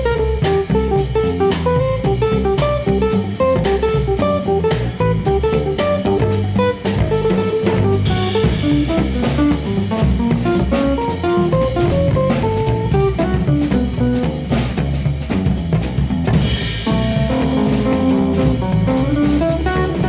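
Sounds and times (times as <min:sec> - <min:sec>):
plucked guitar: 0:00.0 - 0:14.2, 0:16.8 - 0:20.0
drum kit steady beat: 0:00.0 - 0:20.0.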